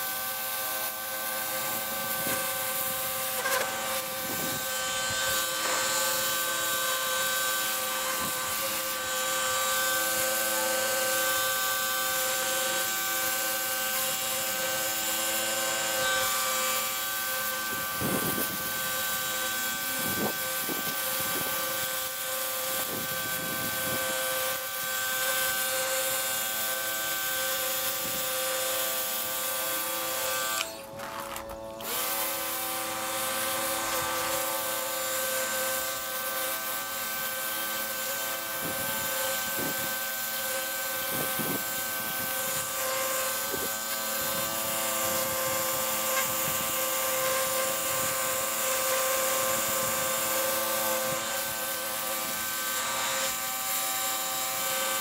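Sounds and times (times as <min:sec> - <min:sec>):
pressure washer motor whine: 0:00.0 - 0:55.0.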